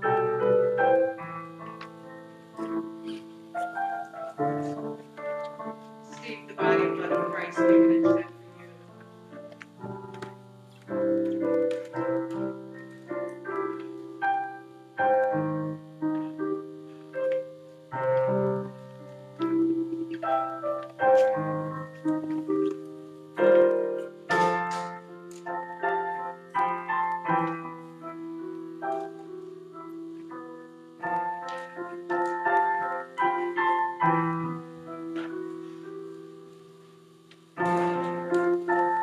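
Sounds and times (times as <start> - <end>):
quiet piano piece: 0.0 - 39.0.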